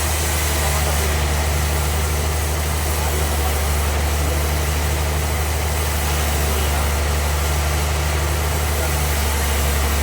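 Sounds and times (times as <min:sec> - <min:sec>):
sawmill machinery humming: 0:00.0 - 0:10.0.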